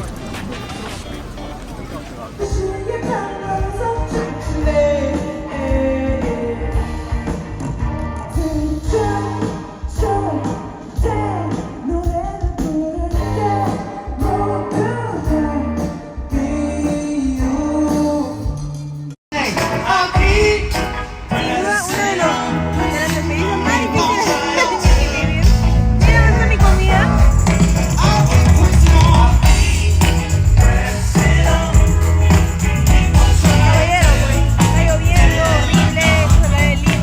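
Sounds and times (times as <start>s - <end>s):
pop-rock song with singer: 2.4s - 37.0s.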